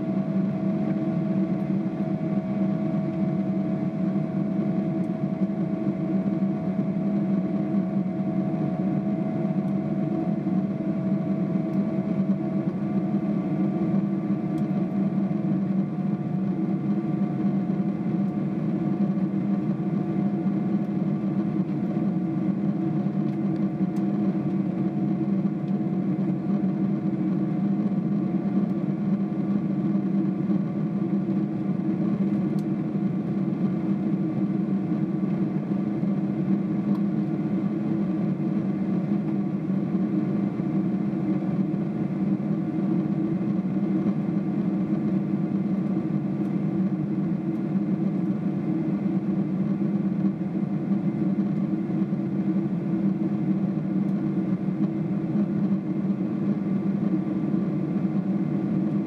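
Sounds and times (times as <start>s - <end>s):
airplane cabin drone: 0.0s - 59.0s.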